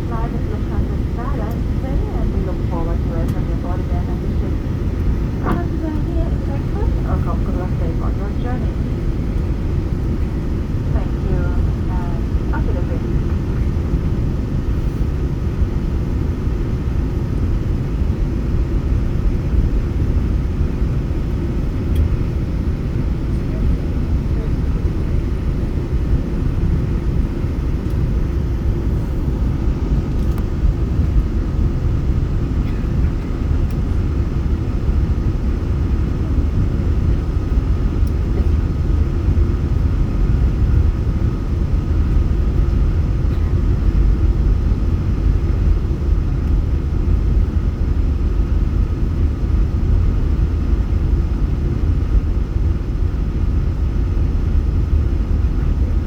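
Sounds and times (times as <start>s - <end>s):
airliner engine rumble: 0.0s - 56.0s
faint steady whine: 0.0s - 56.0s.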